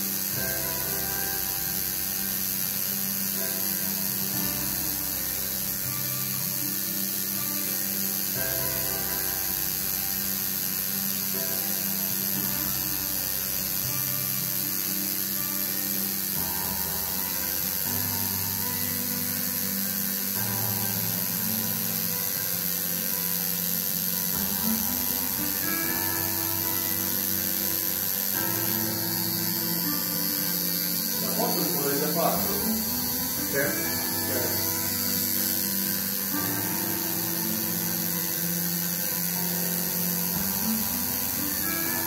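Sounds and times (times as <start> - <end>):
tattoo machine buzzing: 0.0 - 42.0.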